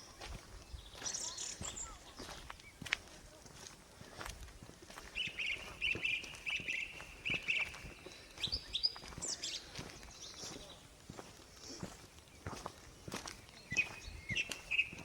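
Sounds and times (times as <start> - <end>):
faint footsteps on ground: 0.0 - 15.0
small birds chirping: 0.0 - 15.0.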